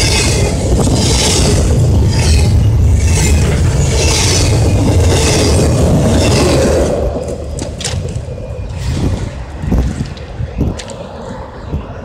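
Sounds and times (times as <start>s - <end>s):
freight train passing: 0.0s - 12.0s
steel wheels on rail: 0.0s - 12.0s.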